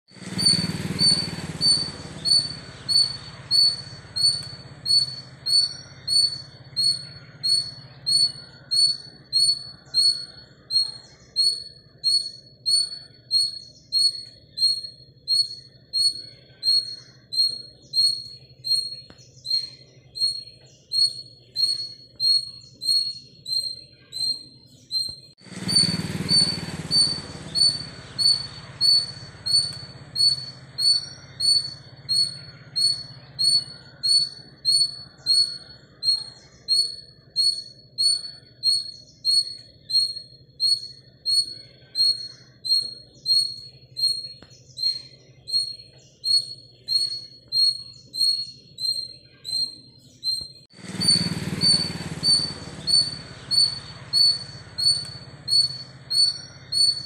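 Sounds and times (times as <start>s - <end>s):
bird chirping: 0.1s - 57.0s.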